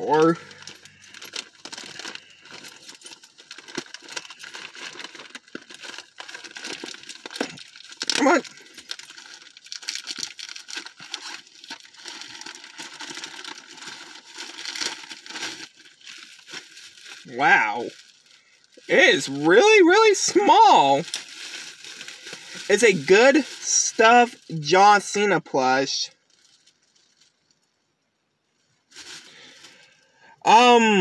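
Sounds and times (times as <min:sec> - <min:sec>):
packaging rustling and crackling: 0:00.0 - 0:25.2, 0:26.1 - 0:27.8, 0:28.5 - 0:30.1.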